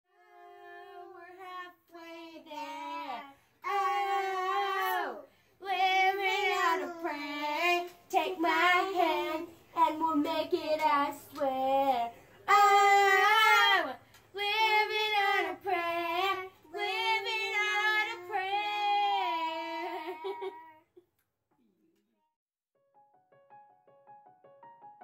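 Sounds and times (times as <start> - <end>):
girl singing unaccompanied: 0.1 - 20.8.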